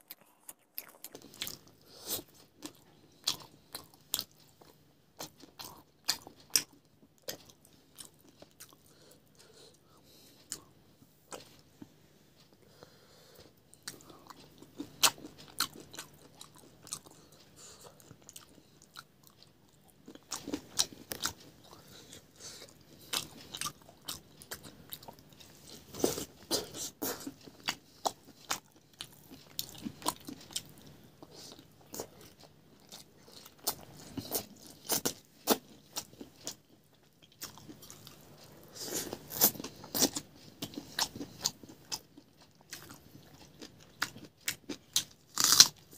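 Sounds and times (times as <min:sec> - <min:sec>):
person crunching and chewing: 0:00.0 - 0:09.5, 0:13.7 - 0:45.9.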